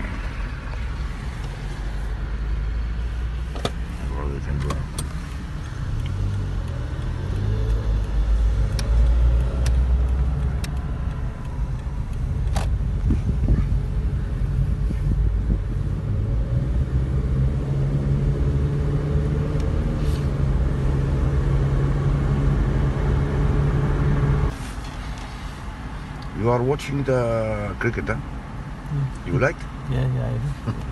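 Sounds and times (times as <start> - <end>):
car engine heard from cabin: 0.0 - 24.8
road noise: 0.0 - 30.9.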